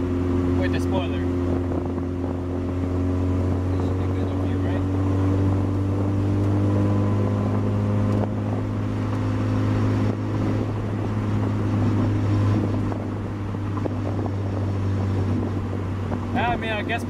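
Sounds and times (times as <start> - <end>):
car engine and road drone: 0.0 - 17.0.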